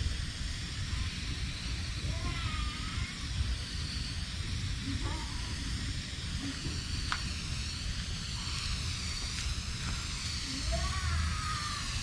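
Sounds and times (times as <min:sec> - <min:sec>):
hose spraying water mist: 0:00.0 - 0:12.0.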